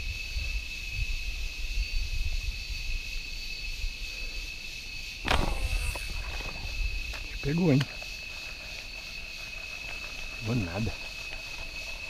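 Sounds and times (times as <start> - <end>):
high insect buzz: 0.0 - 12.0.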